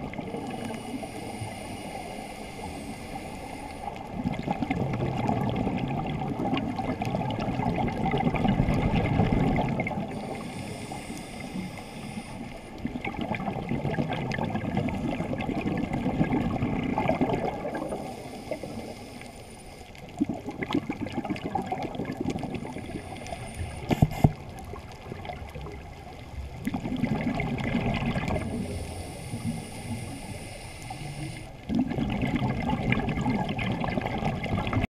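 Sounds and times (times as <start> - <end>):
muffled underwater bubbles gurgling: 0.0 - 34.9.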